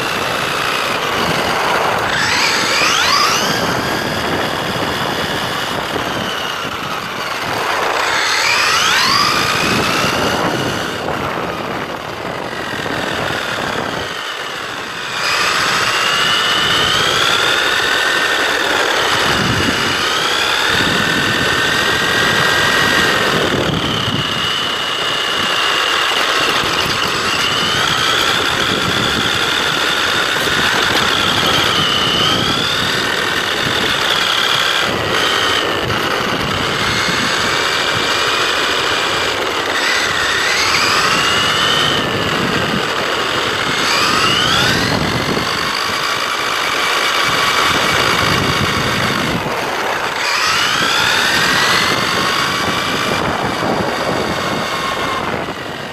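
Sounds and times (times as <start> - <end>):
electric motor whining: 0.0 - 55.9
tyres rushing on asphalt: 0.0 - 55.9.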